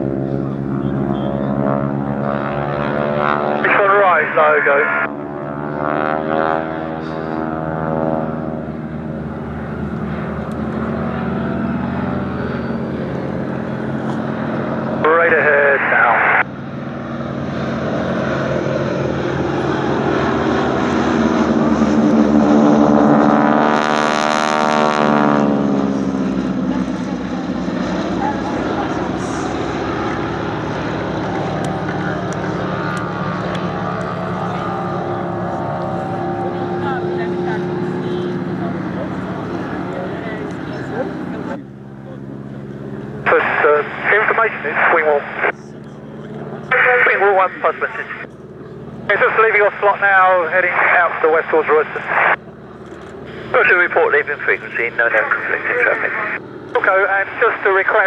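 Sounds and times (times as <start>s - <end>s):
biplane engine droning: 0.0s - 58.0s.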